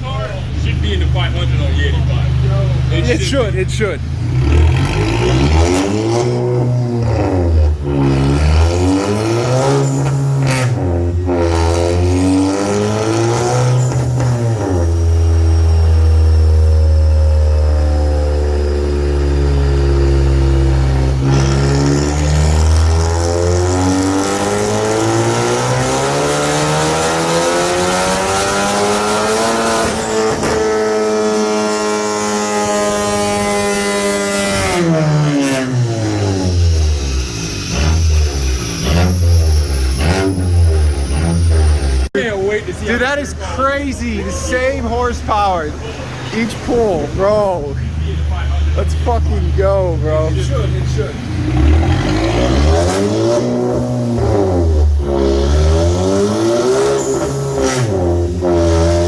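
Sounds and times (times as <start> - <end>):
car engine revving at full throttle: 0.0 - 59.0.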